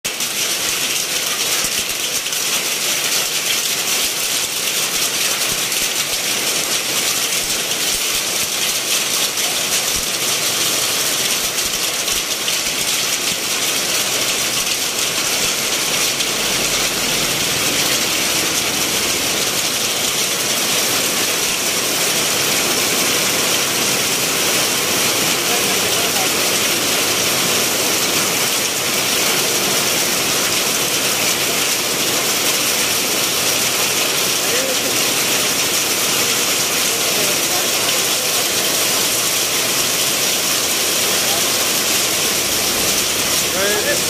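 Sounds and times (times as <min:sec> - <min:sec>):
hail and heavy rain falling: 0:00.1 - 0:44.0
hailstones rattling ticks: 0:00.1 - 0:44.0.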